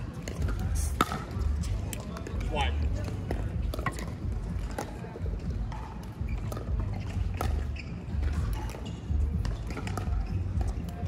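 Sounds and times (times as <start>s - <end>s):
paddles striking balls: 0.2s - 11.0s.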